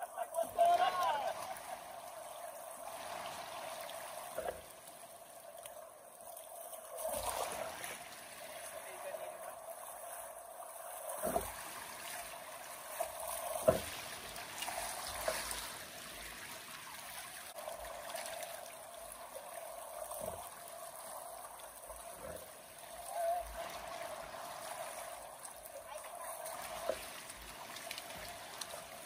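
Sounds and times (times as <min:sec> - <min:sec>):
river water running: 0:00.0 - 0:29.0.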